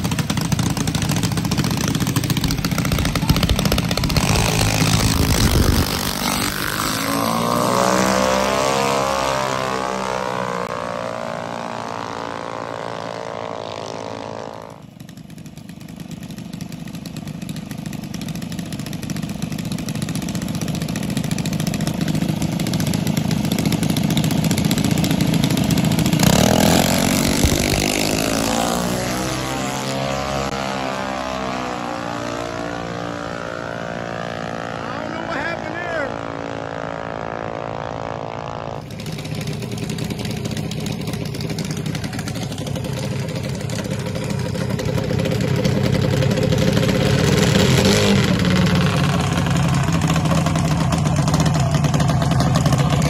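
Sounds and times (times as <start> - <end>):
dragster engines roaring: 0.0 - 53.0.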